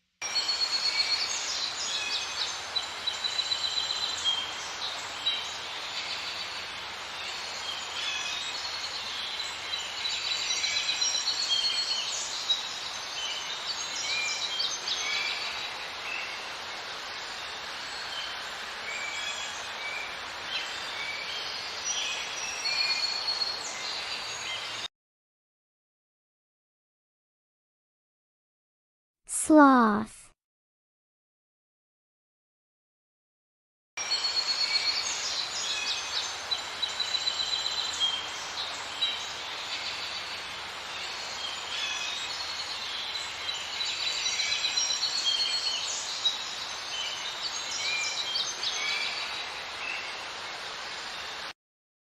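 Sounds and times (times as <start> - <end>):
outdoor hiss: 0.2 - 24.6, 34.0 - 51.5.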